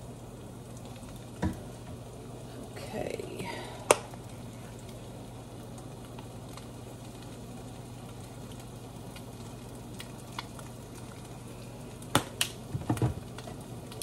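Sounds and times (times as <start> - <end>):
eggs sizzling in a frying pan: 0.0 - 14.0.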